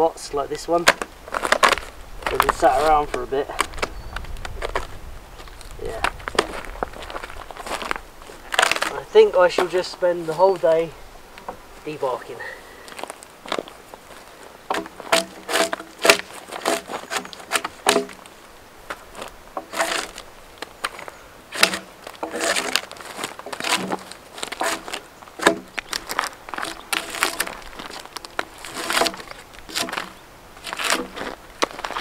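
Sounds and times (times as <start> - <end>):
bark scraping off logs: 0.0 - 32.0.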